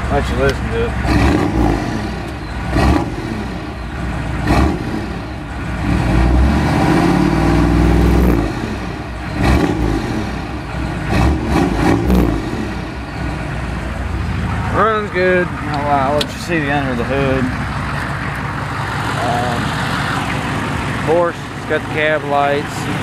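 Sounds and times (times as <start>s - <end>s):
diesel pickup engine revving: 0.0s - 23.0s.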